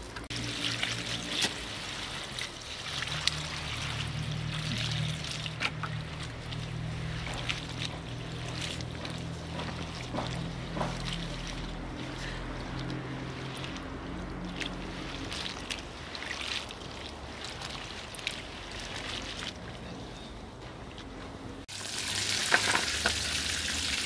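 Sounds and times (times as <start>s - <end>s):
water splashes: 0.0s - 20.1s
hands rubbing beans in water: 0.1s - 21.2s.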